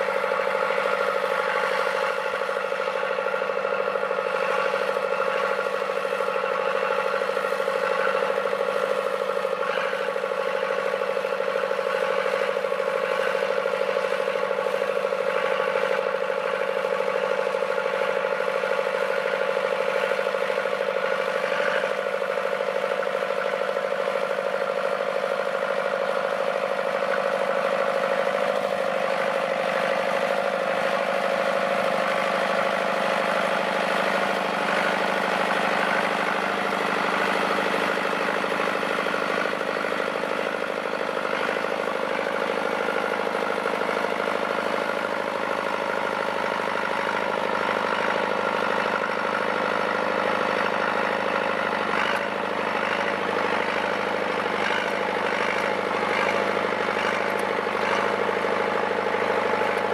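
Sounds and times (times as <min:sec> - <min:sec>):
crawler tractor diesel engine: 0:00.0 - 0:59.9.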